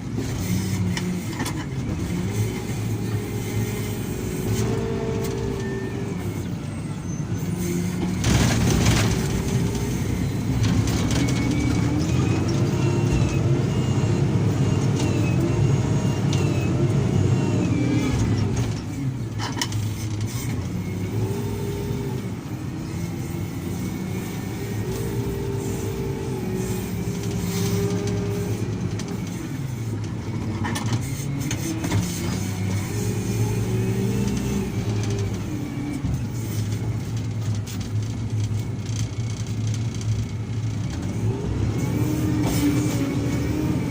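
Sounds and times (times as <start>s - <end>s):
diesel engine revving under load: 0.0s - 39.4s, 40.2s - 43.9s.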